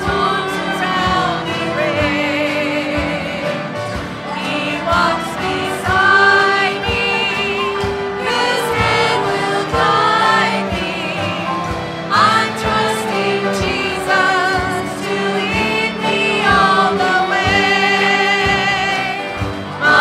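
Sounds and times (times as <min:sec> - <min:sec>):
choir singing gospel music: 0:00.0 - 0:20.0
instrumental backing with steady beat: 0:00.0 - 0:20.0.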